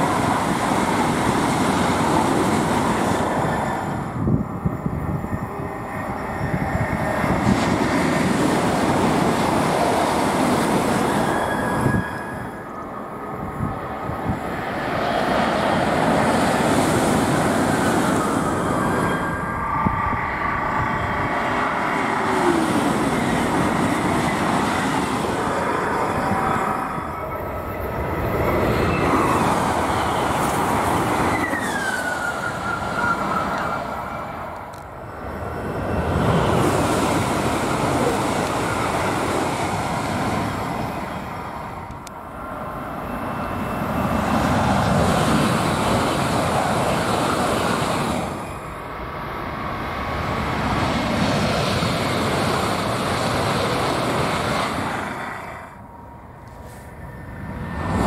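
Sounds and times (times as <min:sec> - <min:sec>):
high-speed trains passing: 0:00.0 - 0:58.0.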